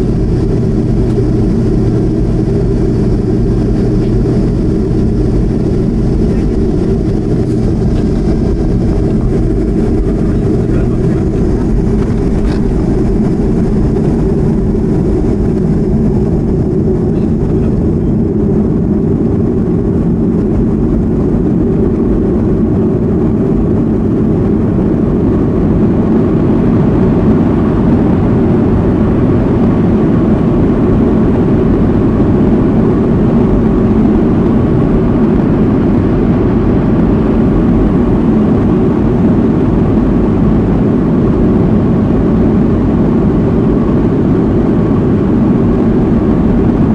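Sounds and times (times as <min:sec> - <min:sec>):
jet engine and airflow noise: 0:00.0 - 0:46.9.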